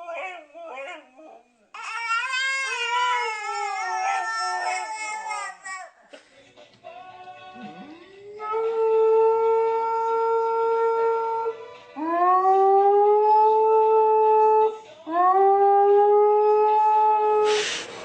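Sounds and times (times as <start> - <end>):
dog howling: 0.0 - 5.7, 8.2 - 17.6.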